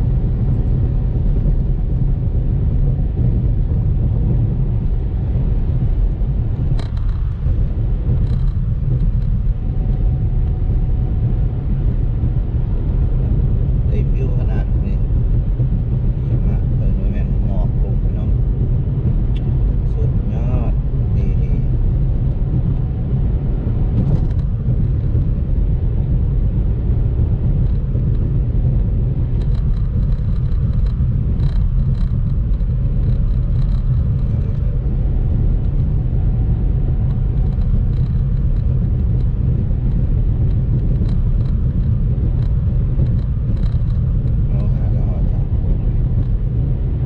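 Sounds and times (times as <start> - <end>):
low rumble: 0.0 - 47.0.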